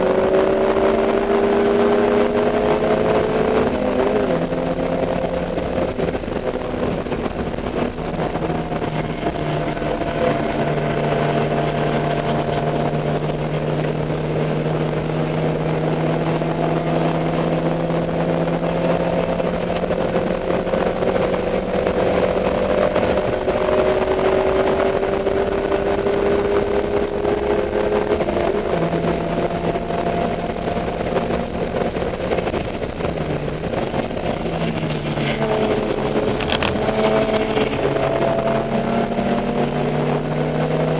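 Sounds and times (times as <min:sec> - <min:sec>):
race car engine running: 0:00.0 - 0:40.9.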